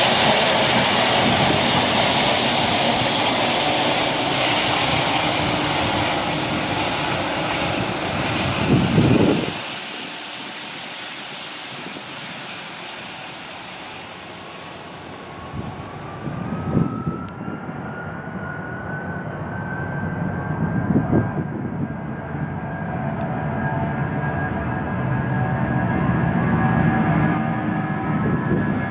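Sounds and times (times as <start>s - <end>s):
jet engines hissing: 0.0s - 28.4s.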